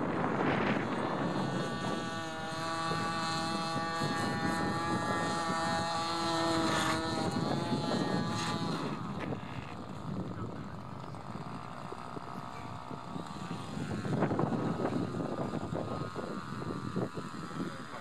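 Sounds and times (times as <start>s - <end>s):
model aircraft motor whining: 0.0s - 18.0s
wind noise on microphone: 0.0s - 18.0s.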